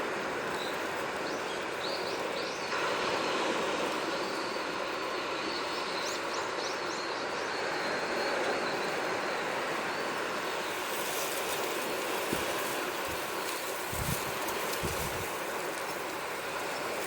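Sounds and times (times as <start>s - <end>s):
sea waves on shore: 0.0s - 17.0s.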